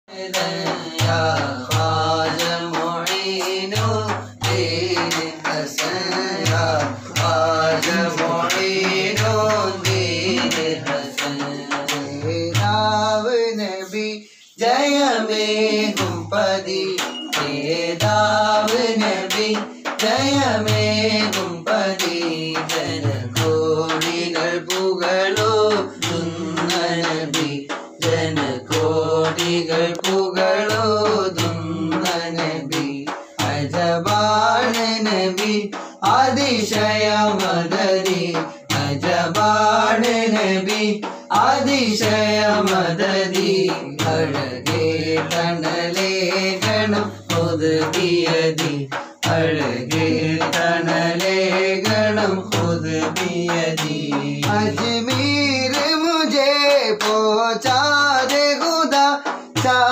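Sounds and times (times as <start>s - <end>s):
men singing: 0.0s - 59.9s
frame drum with jingles: 0.1s - 13.3s, 14.7s - 59.9s.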